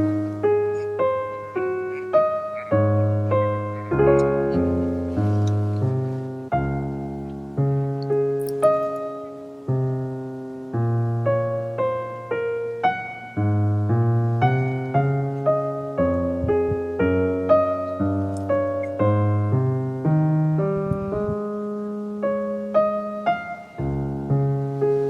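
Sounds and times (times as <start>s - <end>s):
soft piano music: 0.0s - 25.0s.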